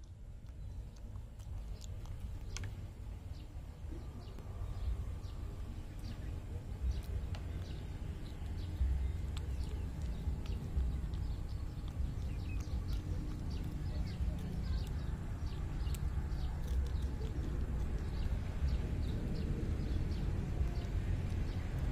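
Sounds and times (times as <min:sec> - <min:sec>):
monkey chewing leaves: 0:00.0 - 0:21.9
steady low rumble: 0:00.0 - 0:21.9.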